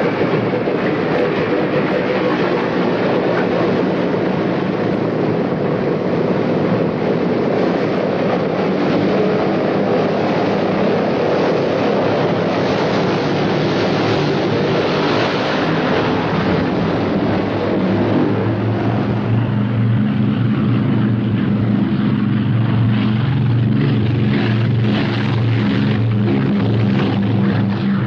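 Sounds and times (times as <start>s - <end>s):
propeller aircraft engines droning: 0.0s - 28.0s.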